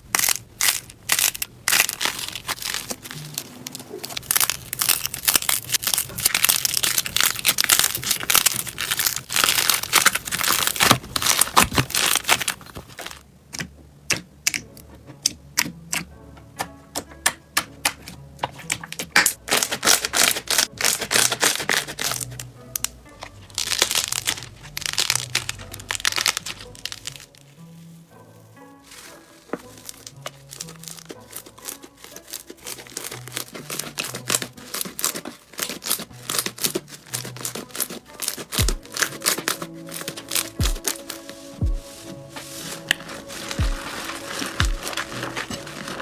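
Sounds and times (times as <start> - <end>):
slime crackling and popping: 0.0 - 13.2, 17.8 - 27.9, 28.9 - 42.0, 42.6 - 46.0
soft background music: 0.1 - 46.0.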